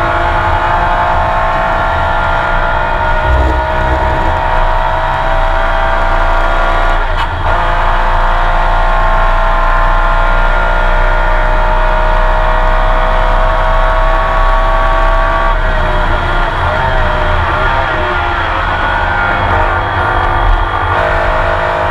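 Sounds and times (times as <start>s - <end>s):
racing car engine under load: 0.0s - 21.9s.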